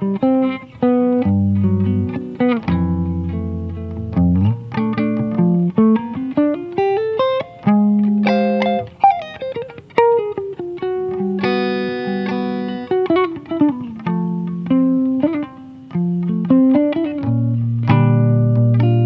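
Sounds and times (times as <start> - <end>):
guitar playing: 0.0 - 19.0.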